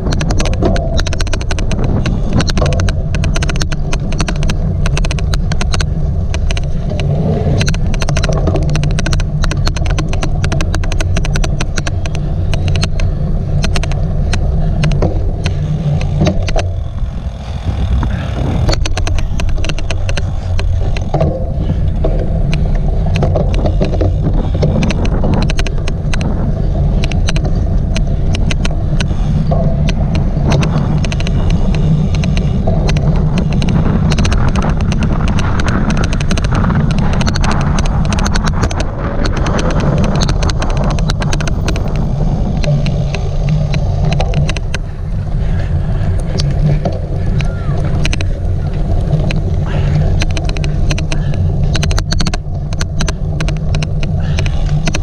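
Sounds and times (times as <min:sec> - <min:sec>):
sharp bike clicks: 0:00.0 - 0:55.0
wind and tyres rumbling: 0:00.0 - 0:55.0.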